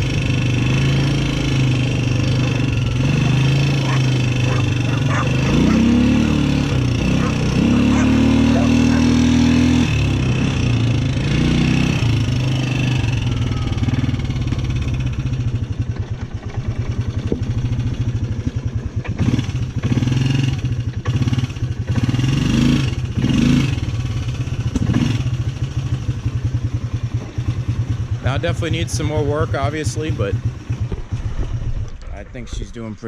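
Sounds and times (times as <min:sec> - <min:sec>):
quad engine revving: 0:00.0 - 0:32.9.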